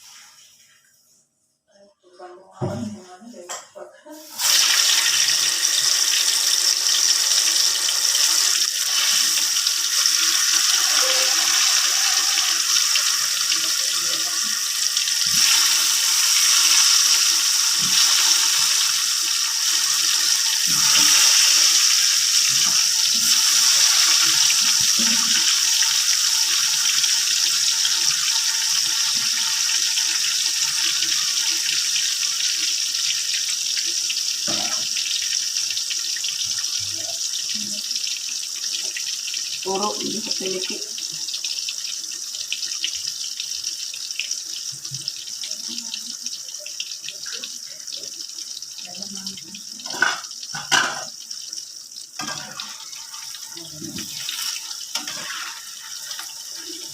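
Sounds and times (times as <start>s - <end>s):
water running from a tap: 4.2s - 56.9s.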